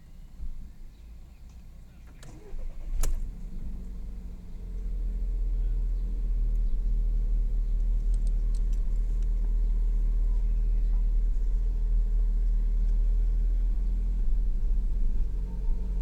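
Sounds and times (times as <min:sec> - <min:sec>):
car engine starting and idling: 0:00.4 - 0:16.0.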